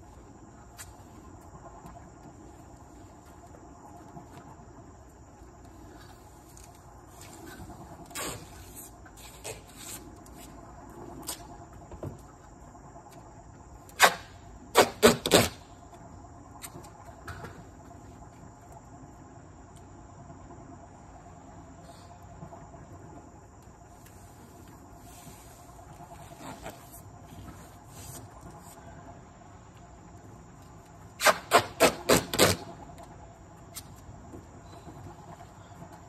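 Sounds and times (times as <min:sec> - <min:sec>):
insects trilling: 0:00.0 - 0:36.0.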